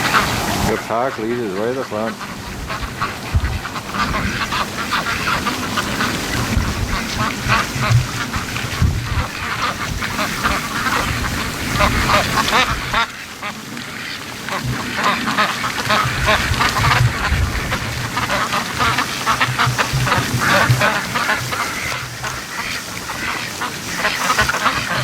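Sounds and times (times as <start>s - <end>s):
wind buffeting microphone: 0.0s - 1.5s, 2.1s - 25.0s
ducks quacking: 0.0s - 25.0s.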